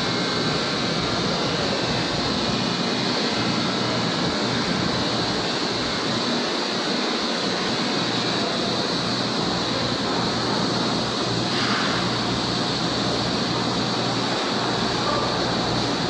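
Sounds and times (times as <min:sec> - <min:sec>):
glass-working machine hissing: 0:00.0 - 0:16.0.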